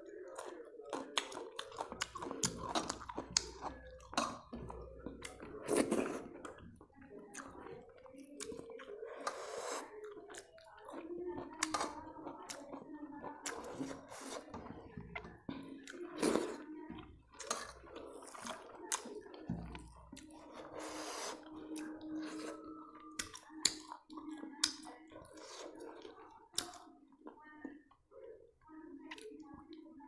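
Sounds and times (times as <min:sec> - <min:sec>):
person chewing: 0:00.2 - 0:27.2.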